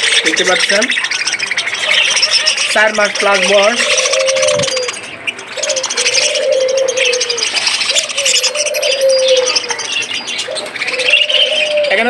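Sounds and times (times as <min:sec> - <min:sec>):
budgerigars chattering and chirping: 0:00.0 - 0:12.0
dove cooing: 0:00.0 - 0:12.0.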